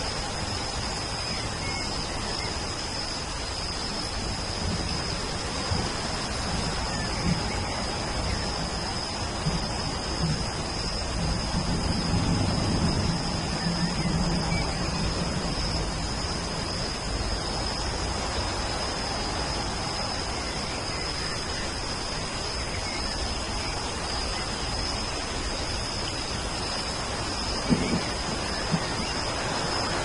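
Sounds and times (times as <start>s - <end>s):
constant high-pitched tone: 0.0s - 30.0s
steady rain hiss: 0.0s - 30.0s.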